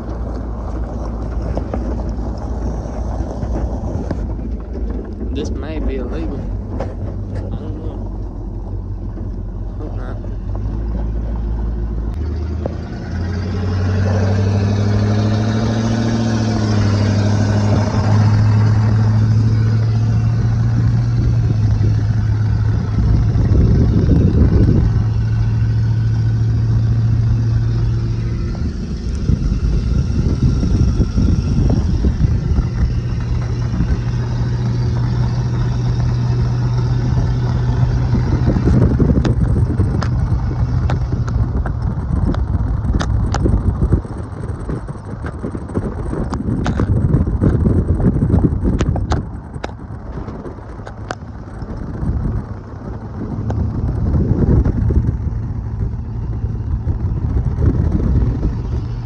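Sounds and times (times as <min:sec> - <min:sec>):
pickup truck engine accelerating: 0:00.0 - 0:59.0
road and wind noise: 0:00.0 - 0:59.0.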